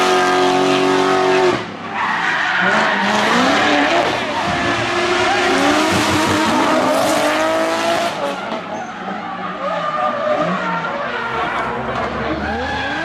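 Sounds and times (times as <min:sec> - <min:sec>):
rally car engine at high revs: 0:00.0 - 0:13.0
tyres skidding: 0:00.0 - 0:13.0.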